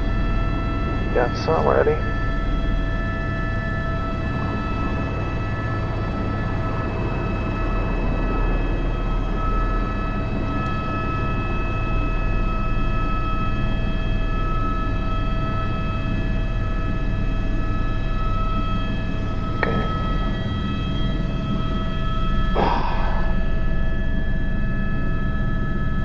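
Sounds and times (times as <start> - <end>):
helicopter rotor rumble: 0.0 - 26.0
helicopter turbine whine: 0.0 - 26.0.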